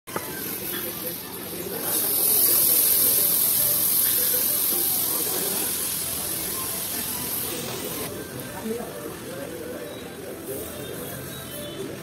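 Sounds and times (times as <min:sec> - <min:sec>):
sauce sizzling on hot metal plate: 0:00.1 - 0:11.8.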